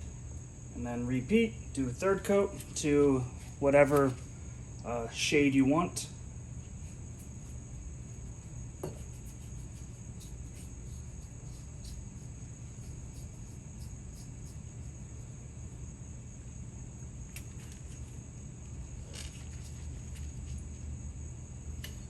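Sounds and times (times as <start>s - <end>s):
insects droning: 0.0s - 22.0s
low steady hum: 0.0s - 22.0s.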